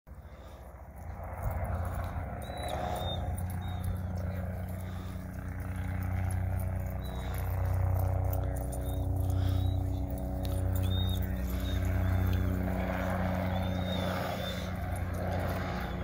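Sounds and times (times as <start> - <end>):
distant motor droning: 0.1 - 16.0.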